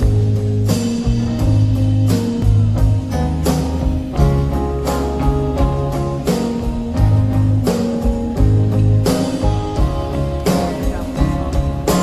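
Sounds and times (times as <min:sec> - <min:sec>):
bass guitar: 0:00.0 - 0:12.0
drum kit with cymbals: 0:00.0 - 0:12.0
electric guitar: 0:00.0 - 0:12.0.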